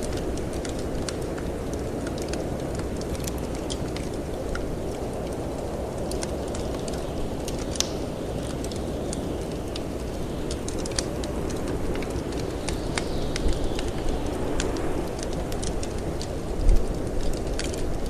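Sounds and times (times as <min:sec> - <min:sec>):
low rush of wind: 0:00.0 - 0:18.0
wood fire crackling: 0:00.0 - 0:18.0.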